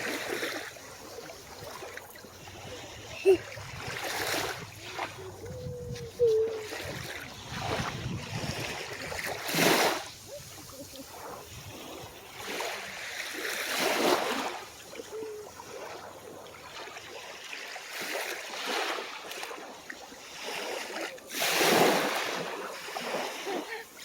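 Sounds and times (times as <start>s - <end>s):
small waves breaking on shore: 0.0s - 24.0s.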